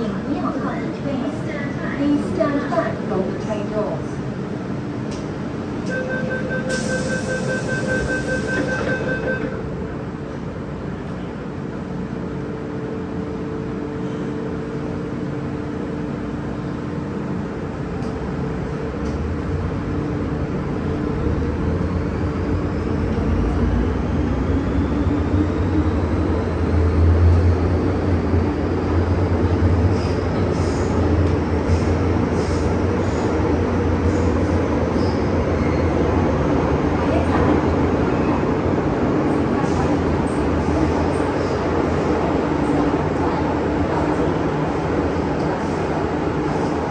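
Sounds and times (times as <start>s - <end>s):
wheels rumbling on rail: 0.0s - 46.9s.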